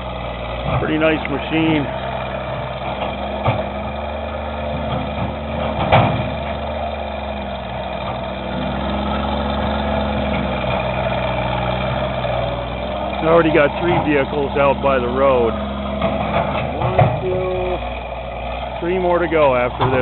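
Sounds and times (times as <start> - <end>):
loader engine running: 0.0 - 20.0.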